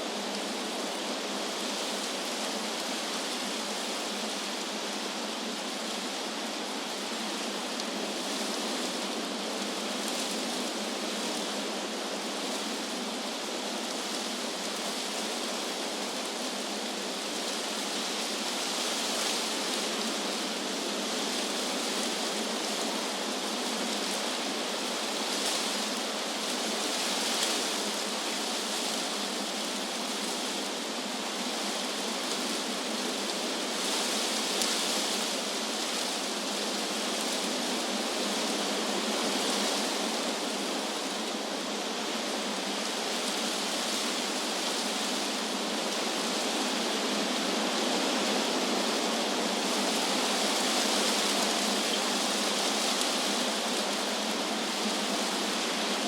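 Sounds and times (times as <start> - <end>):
wind rustling leaves: 0.0 - 56.0.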